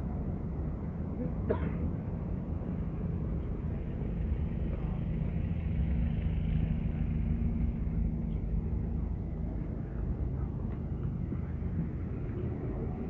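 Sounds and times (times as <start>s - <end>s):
vehicle engine idling: 1.9s - 13.0s.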